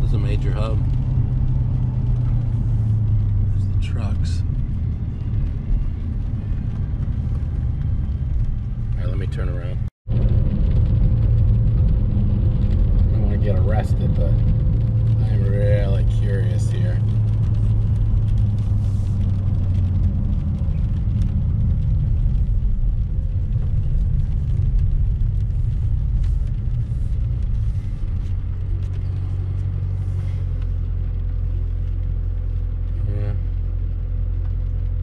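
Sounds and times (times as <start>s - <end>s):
car engine and tyres cruising: 0.0s - 35.0s.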